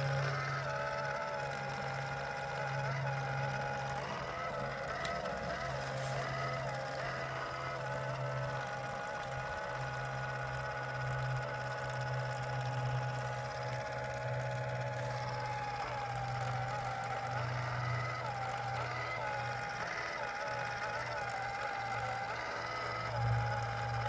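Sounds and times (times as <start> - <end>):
machine humming with whine: 0.0 - 24.0.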